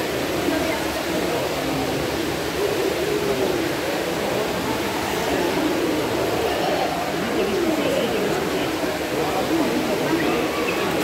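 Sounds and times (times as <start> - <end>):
murmur of voices: 0.0 - 11.0
rushing water: 0.0 - 11.0.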